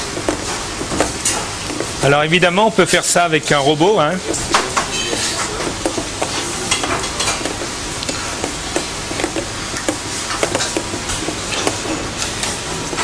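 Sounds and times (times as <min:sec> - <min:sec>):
whisk clicking and scraping: 0:00.0 - 0:13.0.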